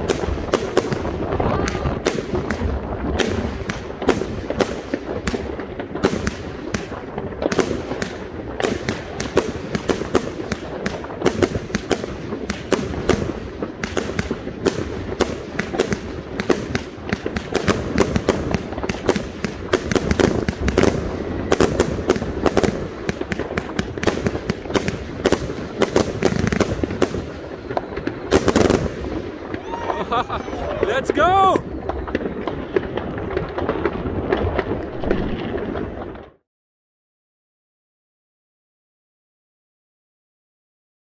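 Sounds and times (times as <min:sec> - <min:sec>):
fireworks launching and bursting: 0:00.0 - 0:36.4.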